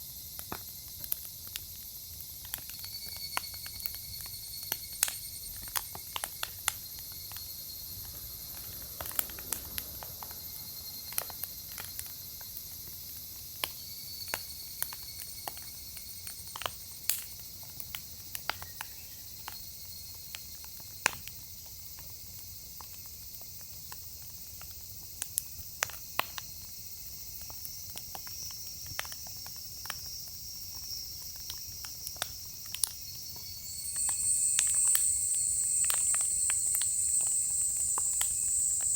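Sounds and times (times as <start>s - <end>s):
high insect trill: 0.0s - 38.9s
logs crackling in fire: 0.1s - 38.9s.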